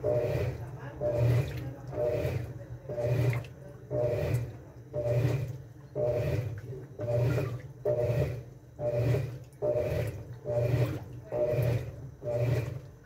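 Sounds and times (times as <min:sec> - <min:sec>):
washing machine agitating: 0:00.0 - 0:13.0.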